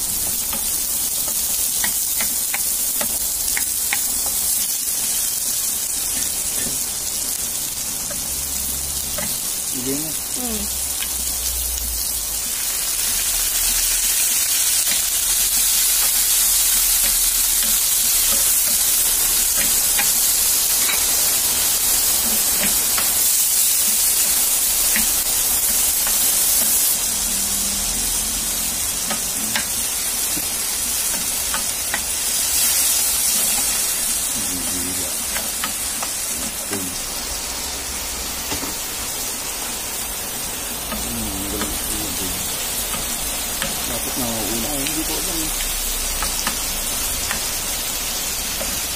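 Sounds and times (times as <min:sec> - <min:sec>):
food sizzling in a frying pan: 0:00.0 - 0:48.9.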